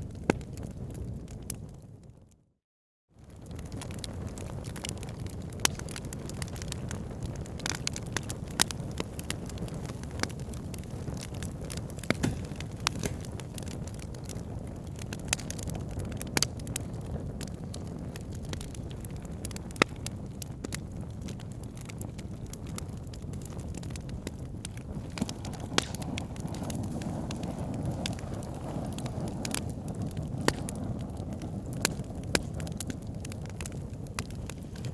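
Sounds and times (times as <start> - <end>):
fire crackling and popping: 0.0 - 2.4, 3.2 - 34.9.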